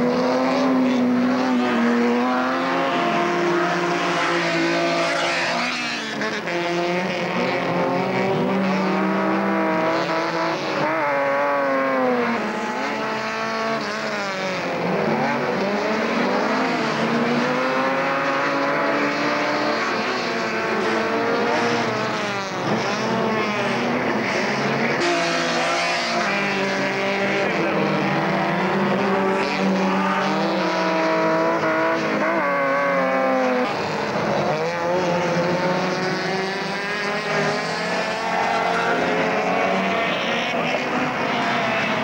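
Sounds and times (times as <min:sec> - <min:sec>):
racing car engines at full throttle: 0:00.0 - 0:42.0.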